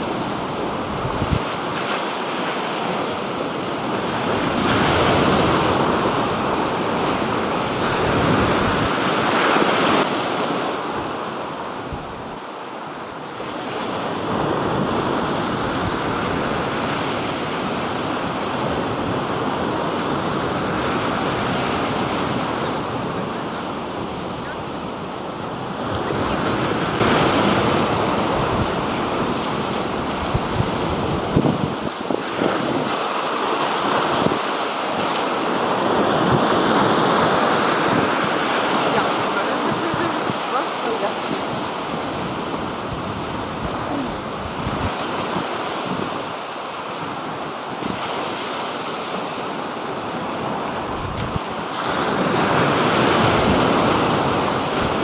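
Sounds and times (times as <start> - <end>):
wind on microphone: 0.0 - 12.4, 13.9 - 55.0
waves washing onto shore: 0.0 - 55.0.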